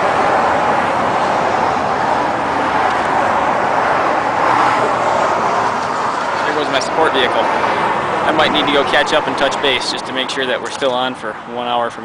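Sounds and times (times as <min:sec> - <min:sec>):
vehicle passing: 0:00.0 - 0:10.6
highway traffic noise: 0:00.0 - 0:12.0.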